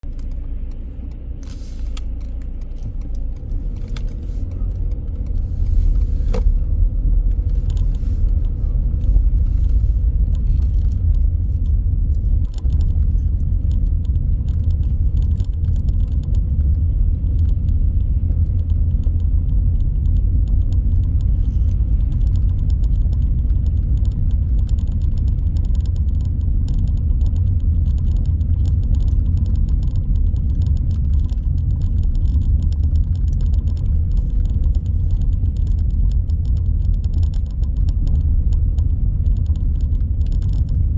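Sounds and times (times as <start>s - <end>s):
car engine and road noise: 0.0s - 40.9s
light clicking or rattling: 0.0s - 40.9s.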